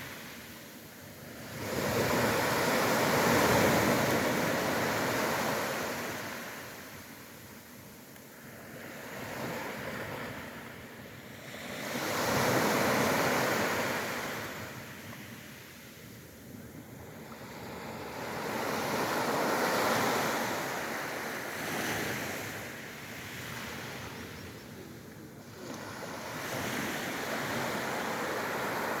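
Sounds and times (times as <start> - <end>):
ocean waves breaking on shore: 0.0 - 29.0.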